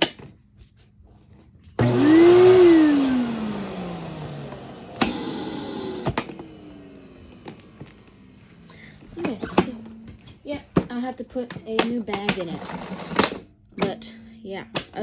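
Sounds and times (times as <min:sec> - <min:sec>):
vacuum cleaner motor humming: 0:01.8 - 0:14.2.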